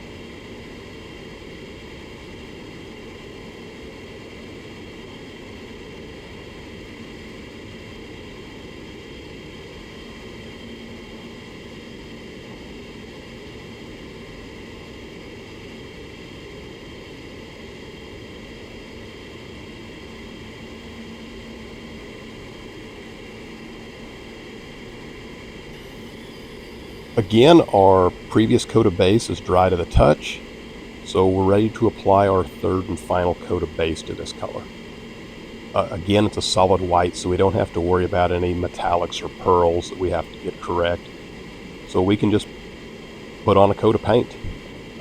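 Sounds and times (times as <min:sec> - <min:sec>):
ventilation fans rushing air: 0:00.0 - 0:45.0.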